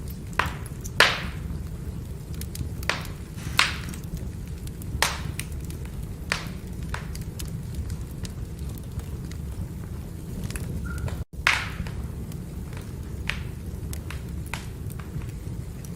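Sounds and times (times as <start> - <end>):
firewood crackling and popping: 0.0 - 15.9
low rumble of fire: 0.0 - 15.9.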